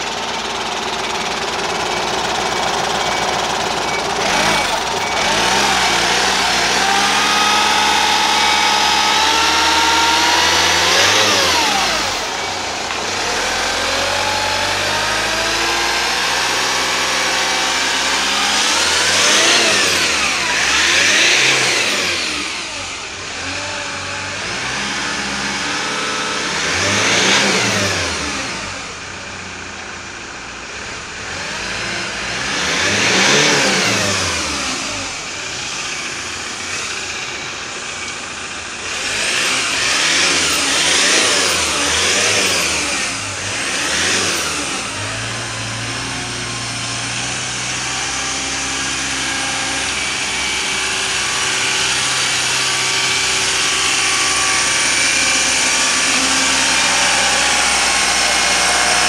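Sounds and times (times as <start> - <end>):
diesel engine idling and revving: 0.0 - 59.0.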